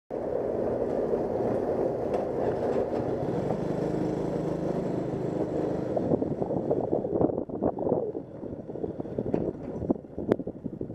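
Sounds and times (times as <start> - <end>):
ferry engine rumble: 0.2 - 10.9.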